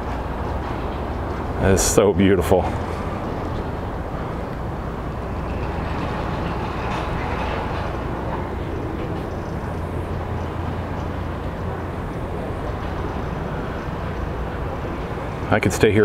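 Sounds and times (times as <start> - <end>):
low mechanical hum and rumble: 0.0 - 16.0.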